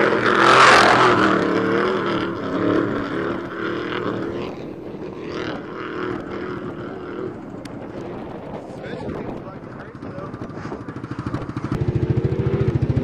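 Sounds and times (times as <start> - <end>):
race truck engine passing by: 0.0 - 13.0.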